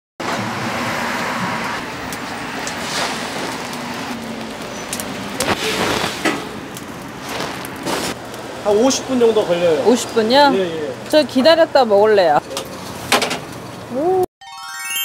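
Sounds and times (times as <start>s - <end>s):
street traffic: 0.2s - 14.2s.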